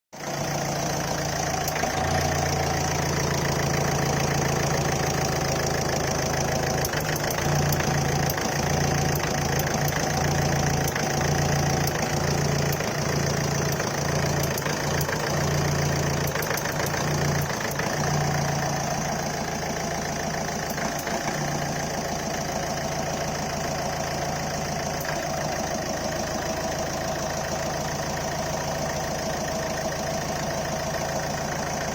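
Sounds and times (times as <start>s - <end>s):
diesel engine idling: 0.2s - 31.9s.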